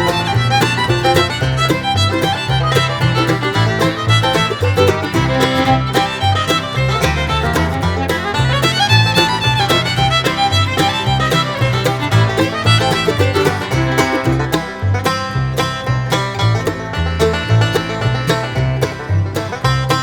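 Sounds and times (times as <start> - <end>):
bouncing bass line: 0.0 - 20.0
quick plucked notes: 0.0 - 20.0.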